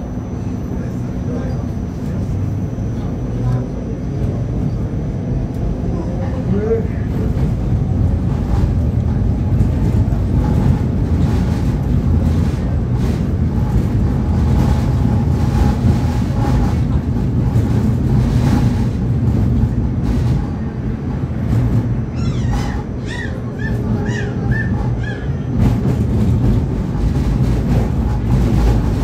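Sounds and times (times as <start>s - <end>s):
tram wheels rumbling on rails: 0.0s - 29.0s.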